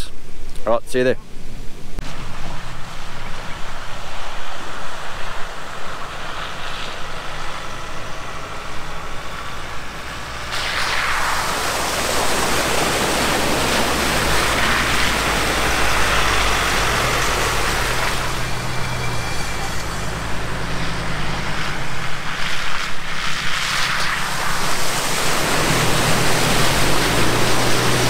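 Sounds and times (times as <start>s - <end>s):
vehicle engine drone: 0.0s - 28.0s
tyre noise on dirt track: 2.0s - 28.0s
tyres hissing through water: 2.1s - 28.0s.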